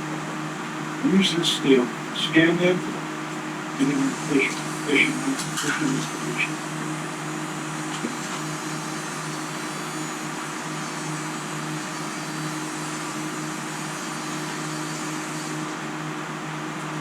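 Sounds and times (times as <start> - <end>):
fan machine whirring hum: 0.0 - 17.0.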